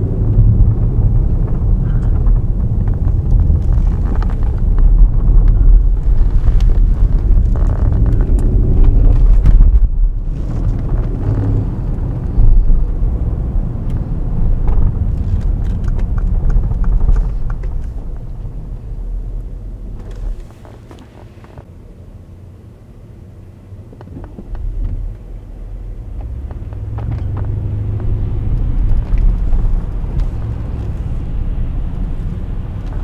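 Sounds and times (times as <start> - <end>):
car engine rumbling: 0.0 - 33.0
road noise: 0.0 - 33.0.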